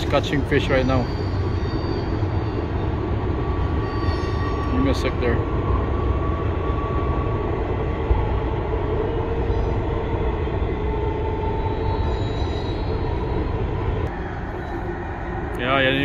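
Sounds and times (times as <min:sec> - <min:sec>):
high wheel squeals: 0:00.0 - 0:07.3, 0:09.0 - 0:16.0
freight train rumbling past: 0:00.0 - 0:16.0.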